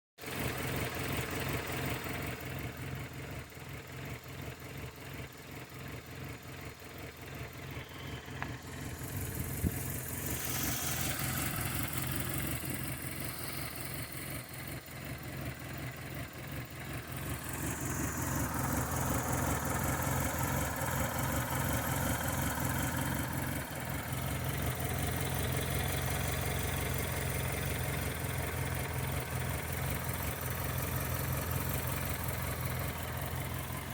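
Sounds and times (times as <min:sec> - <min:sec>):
car engine idling roughly: 0:00.2 - 0:33.9.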